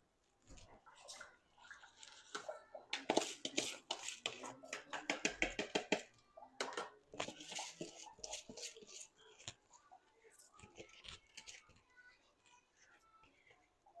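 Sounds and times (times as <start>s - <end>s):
rice rinsed in water: 0.0s - 14.0s.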